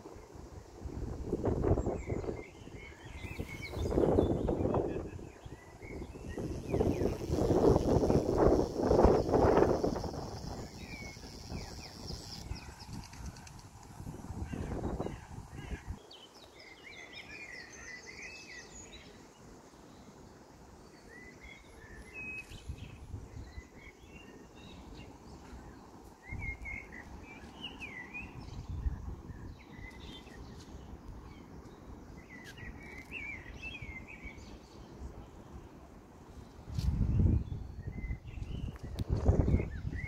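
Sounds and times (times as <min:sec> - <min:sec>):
small birds chirping: 0:01.6 - 0:35.6.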